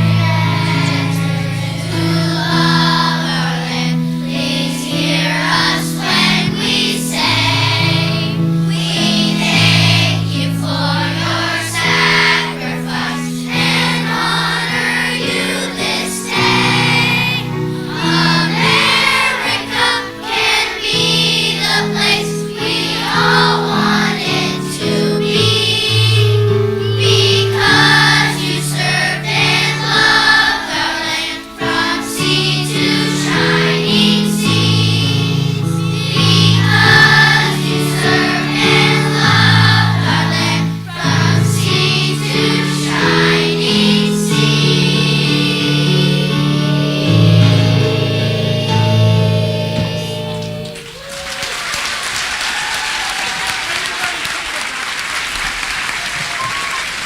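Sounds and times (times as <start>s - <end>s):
instrumental accompaniment: 0.0s - 51.0s
children's choir singing: 0.0s - 57.0s.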